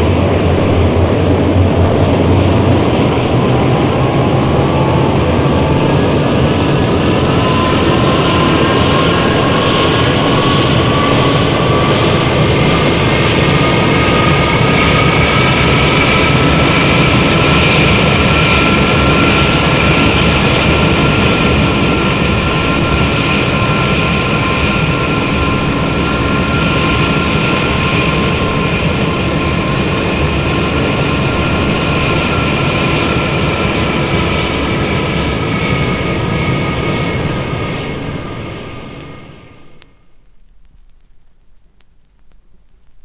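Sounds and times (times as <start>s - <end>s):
jet airliner engines roaring: 0.0s - 40.5s.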